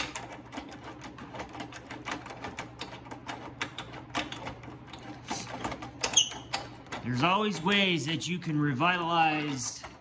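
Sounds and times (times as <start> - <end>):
metal parts clicking and rattling: 0.0 - 10.0.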